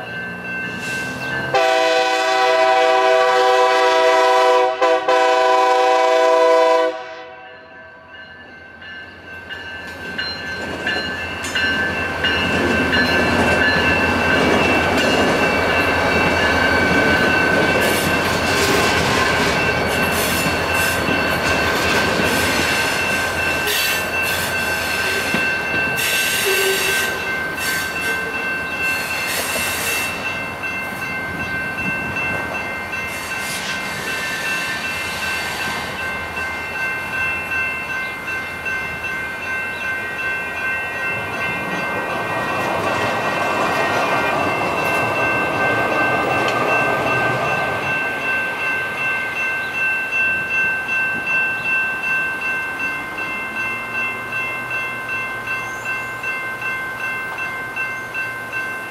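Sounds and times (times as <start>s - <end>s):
crossing warning bells ringing: 0.0s - 58.9s
light rail train rumbling past: 0.0s - 58.9s.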